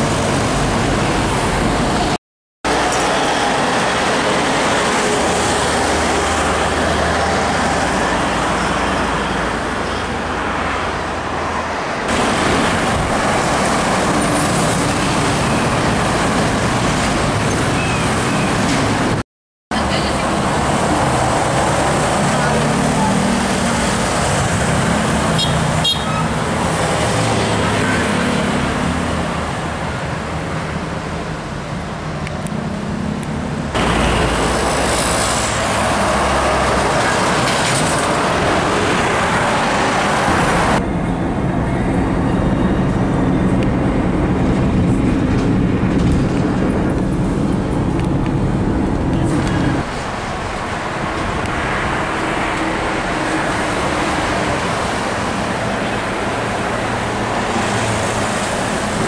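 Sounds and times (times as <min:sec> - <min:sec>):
trucks and highway traffic passing: 0:00.0 - 0:59.0.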